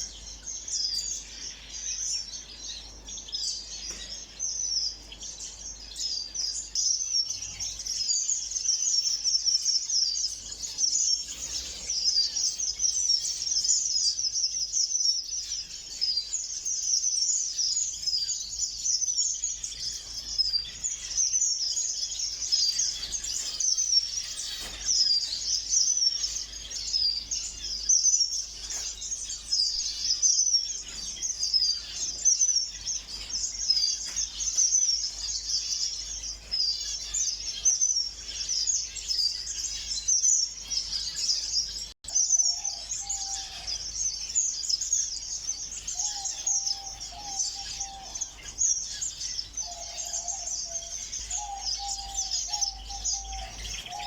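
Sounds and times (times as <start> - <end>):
flock of small birds chirping: 0.0 - 54.0.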